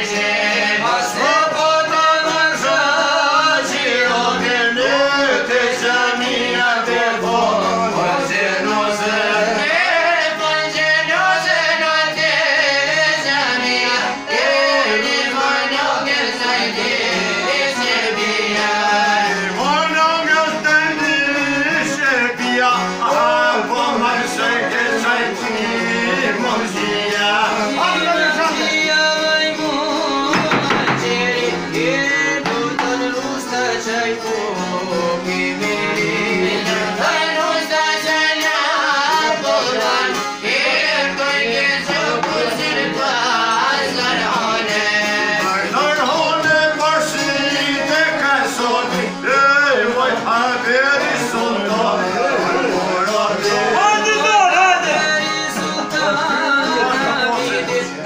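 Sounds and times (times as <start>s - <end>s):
accordion: 0.0s - 58.0s
men singing together: 0.0s - 58.0s
plucked long-necked lutes: 0.0s - 58.0s.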